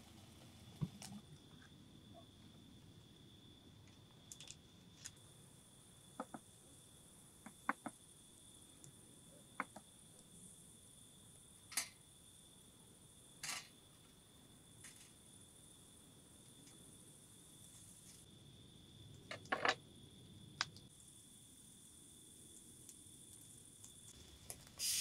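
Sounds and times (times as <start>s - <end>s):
faint insect trill: 0.5s - 25.0s.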